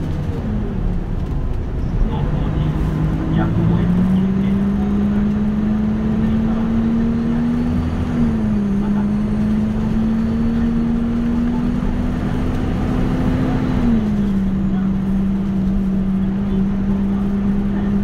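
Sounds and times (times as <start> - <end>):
bus diesel engine accelerating: 0.0 - 18.0.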